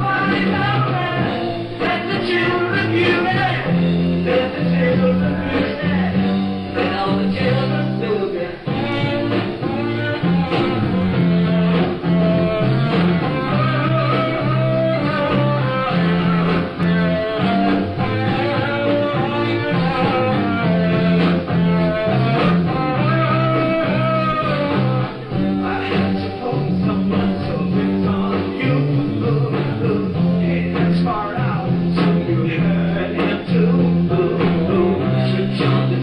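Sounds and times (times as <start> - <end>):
electric guitar: 0.0 - 36.0
rock band playing: 0.0 - 36.0.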